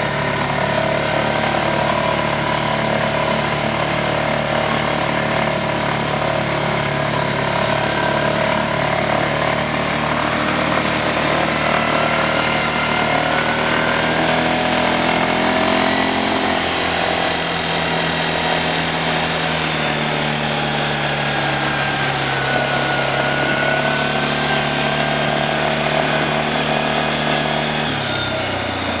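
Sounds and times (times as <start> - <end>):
quad engine running under load: 0.0 - 29.0
quad wading through muddy water: 0.0 - 29.0.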